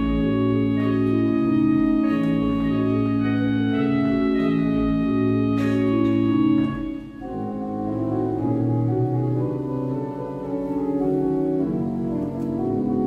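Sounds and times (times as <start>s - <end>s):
pipe organ chords: 0.0s - 13.0s.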